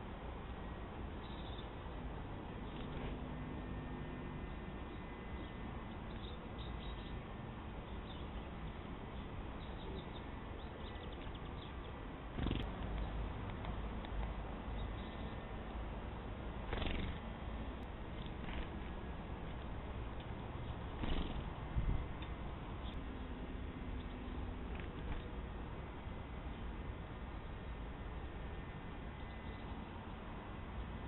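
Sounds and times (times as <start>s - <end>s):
steady low background noise: 0.0s - 31.0s.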